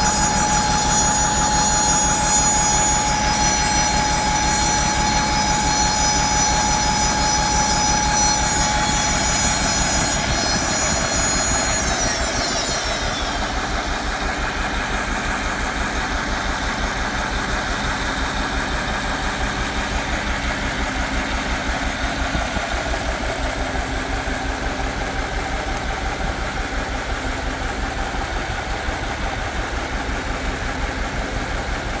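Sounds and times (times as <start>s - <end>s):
high whining tones gliding down: 0.0s - 32.0s
machine buzzing with fast pulse: 0.0s - 32.0s.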